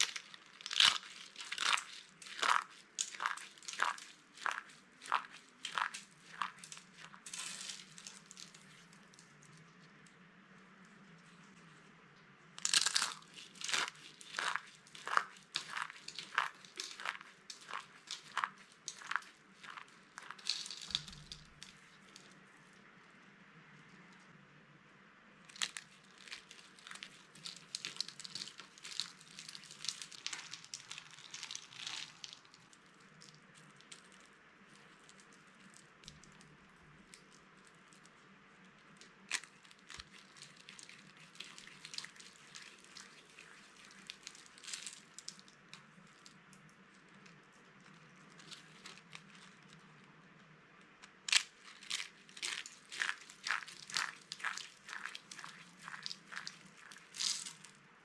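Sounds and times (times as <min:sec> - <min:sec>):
soap crunching and crackling: 0:00.0 - 0:10.1, 0:12.6 - 0:22.8, 0:25.5 - 0:50.1, 0:51.0 - 0:57.9.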